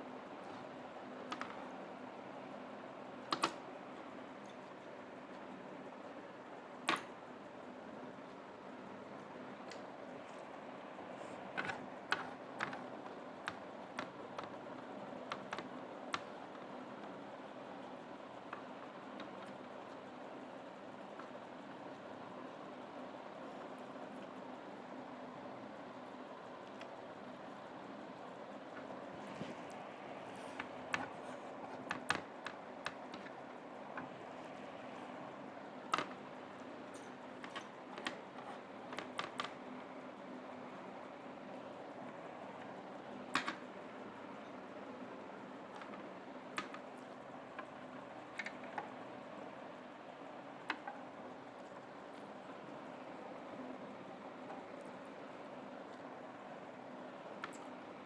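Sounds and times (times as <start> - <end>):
background hum: 0.0 - 58.0
steady background hiss: 0.0 - 58.0.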